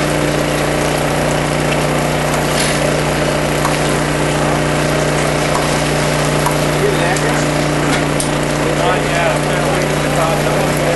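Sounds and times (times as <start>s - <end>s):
fire engine pump motor droning: 0.0s - 10.9s.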